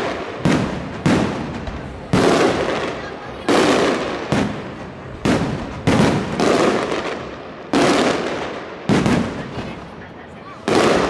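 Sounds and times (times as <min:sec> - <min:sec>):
fireworks bursting with echo: 0:00.0 - 0:11.0.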